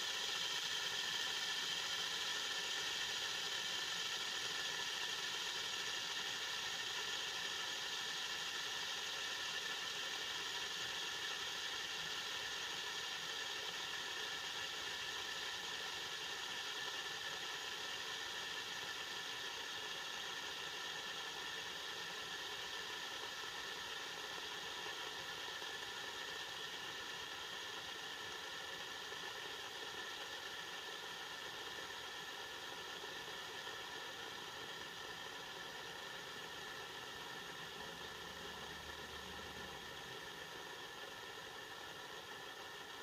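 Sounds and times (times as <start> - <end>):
fidget spinner whirring: 0.0 - 43.0.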